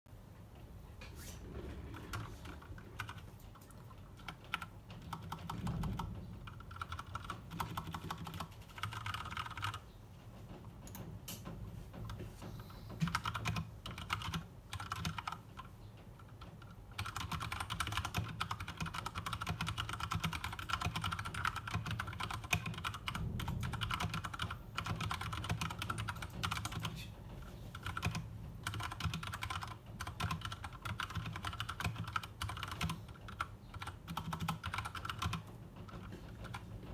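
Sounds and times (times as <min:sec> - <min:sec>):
mechanical keyboard typing: 0:01.6 - 0:10.0, 0:12.9 - 0:36.9.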